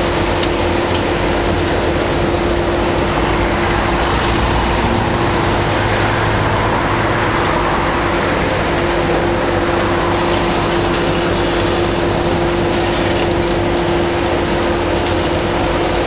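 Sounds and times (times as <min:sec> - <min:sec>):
excavator engine drone and whine: 0:00.0 - 0:16.0.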